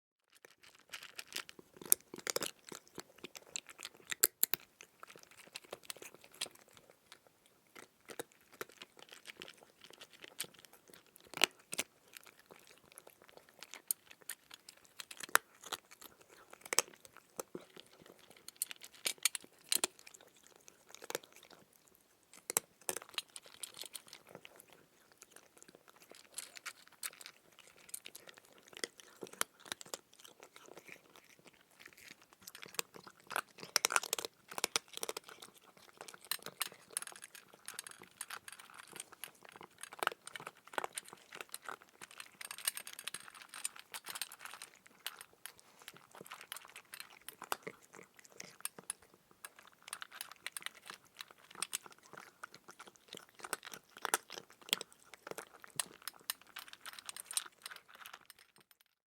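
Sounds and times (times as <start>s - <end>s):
cat chewing food: 0.3s - 59.0s.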